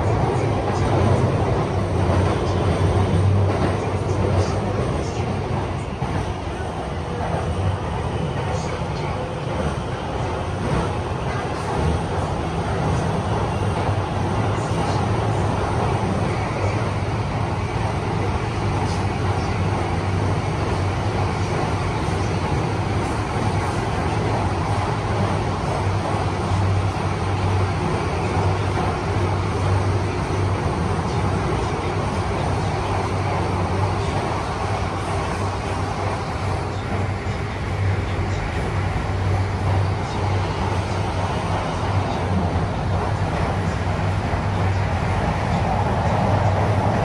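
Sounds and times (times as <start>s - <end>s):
metro train rushing noise: 0.0s - 47.0s.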